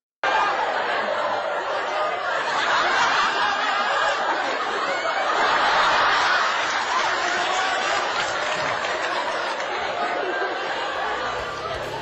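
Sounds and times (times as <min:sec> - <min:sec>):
crowd shouting: 0:00.2 - 0:12.0.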